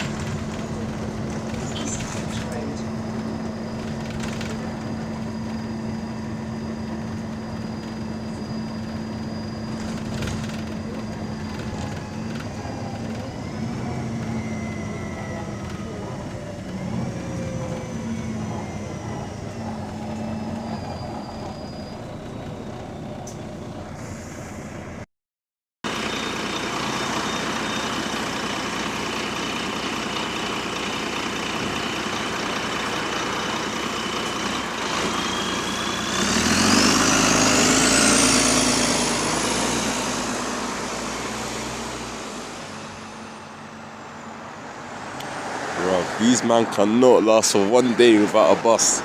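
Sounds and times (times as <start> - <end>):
rising engine whine: 0.0 - 25.0, 25.9 - 49.0
bus engine running: 0.0 - 25.1, 25.8 - 49.0.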